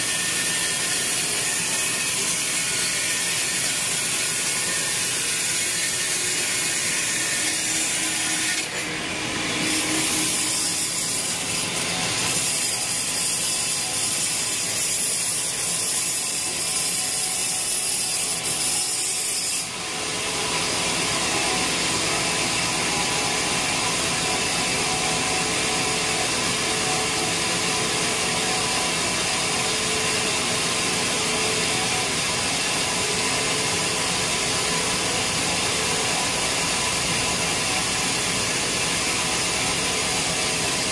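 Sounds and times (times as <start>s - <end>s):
bandsaw blade sawing log: 0.0s - 40.9s.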